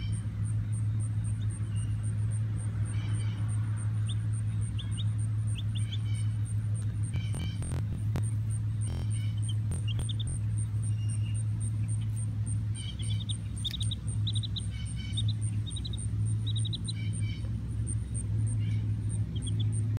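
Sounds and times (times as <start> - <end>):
faint high ticking: 0.0 - 20.0
low mechanical hum: 0.0 - 20.0
chick peeping: 2.9 - 19.9.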